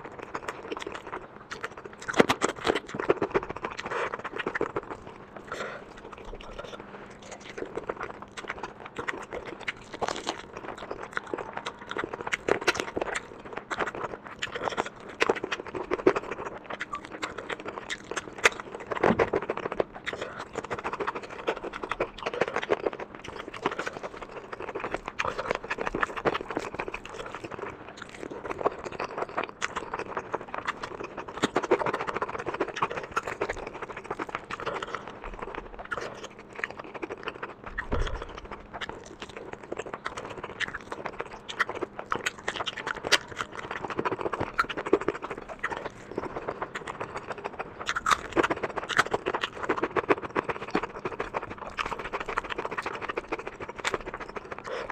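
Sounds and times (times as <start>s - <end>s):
chewing and mouth smacking: 0.0s - 54.9s.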